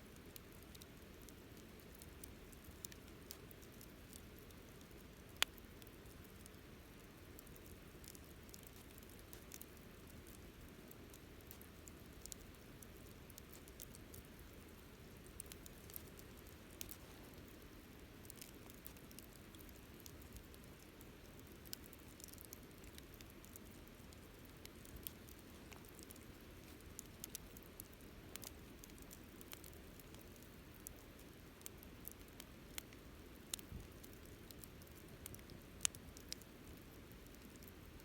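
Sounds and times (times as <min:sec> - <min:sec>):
campfire crackles and pops: 0:00.0 - 0:38.0
flames burning: 0:00.1 - 0:38.0.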